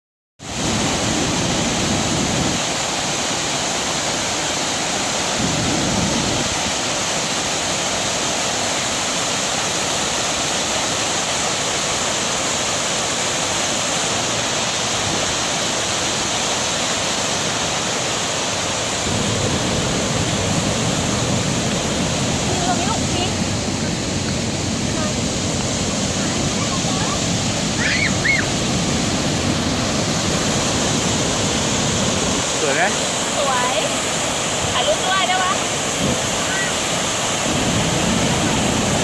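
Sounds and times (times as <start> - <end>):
waterfall rushing: 0.4 - 39.0.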